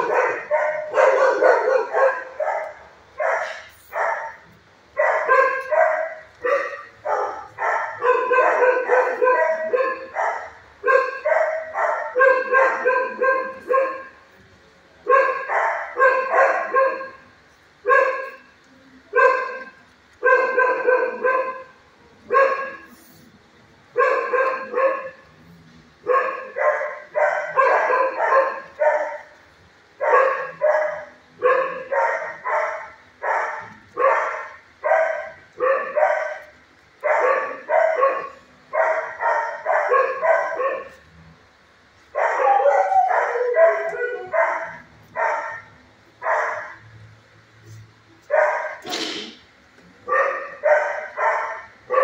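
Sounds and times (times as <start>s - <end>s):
dog barking: 0.0s - 14.2s, 15.0s - 18.5s, 19.1s - 23.0s, 24.0s - 25.3s, 26.0s - 29.4s, 30.0s - 41.0s, 42.1s - 46.8s, 48.2s - 49.0s, 50.0s - 52.0s.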